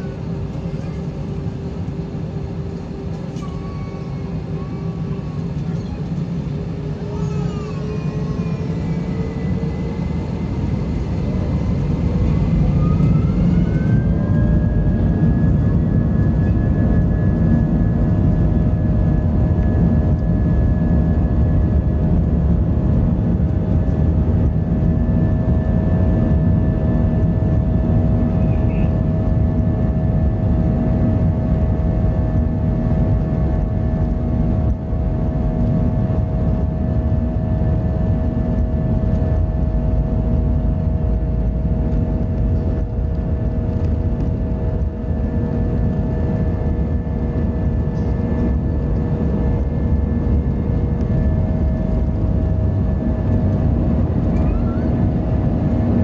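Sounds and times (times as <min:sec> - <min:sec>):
rising engine whine: 0:00.0 - 0:56.0.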